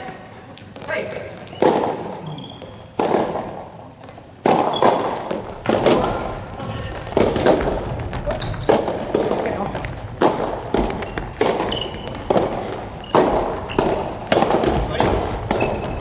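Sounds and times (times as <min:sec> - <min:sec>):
tennis racket hitting ball: 0:02.8 - 0:16.0.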